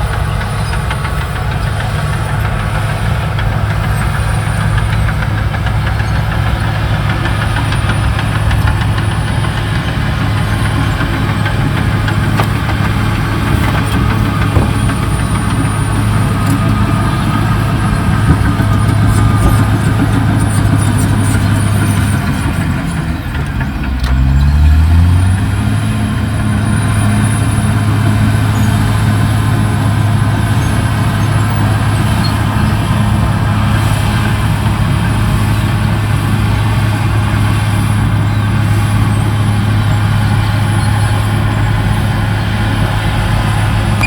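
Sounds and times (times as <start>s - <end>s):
bulldozer diesel engine under load: 0.0s - 44.0s.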